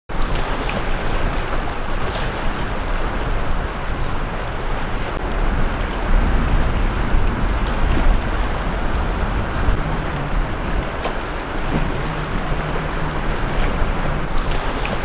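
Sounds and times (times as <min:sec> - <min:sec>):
sea waves washing onto beach: 0:00.1 - 0:15.0
wind buffeting the microphone: 0:00.1 - 0:15.0.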